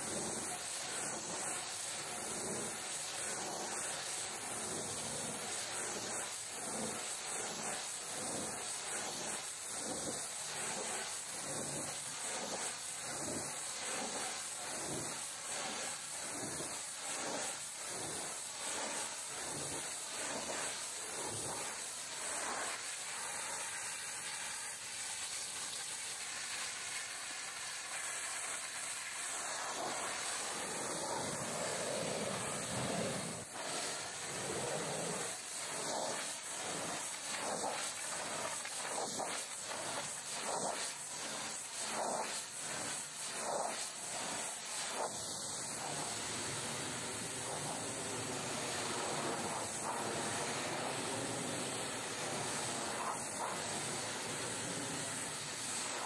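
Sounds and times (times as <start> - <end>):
pressure washer spraying metal panels: 0.0 - 56.0.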